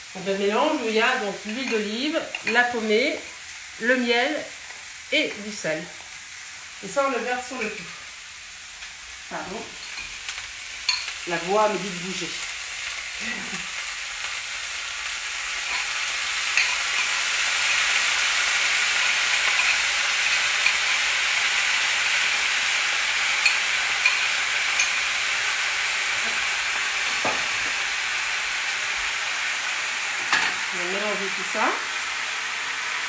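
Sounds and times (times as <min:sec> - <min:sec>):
cabbage sizzling in frying pan: 0:00.0 - 0:33.0.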